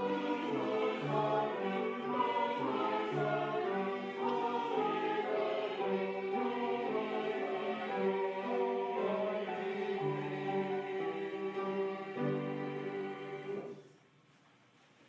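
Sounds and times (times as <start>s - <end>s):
slow sacred choral music: 0.0s - 14.4s.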